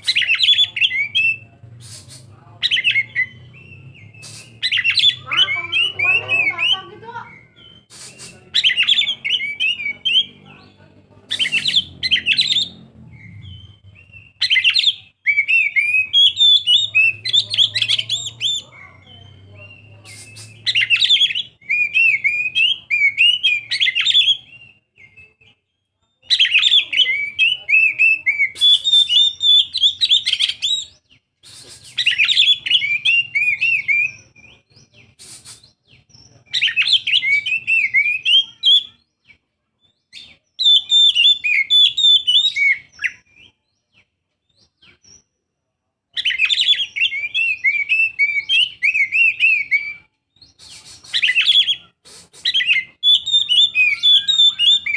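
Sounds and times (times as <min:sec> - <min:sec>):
bird singing whistled phrases: 0:00.0 - 0:10.4, 0:11.3 - 0:25.6, 0:26.2 - 0:39.4, 0:40.0 - 0:43.9, 0:46.2 - 0:54.9.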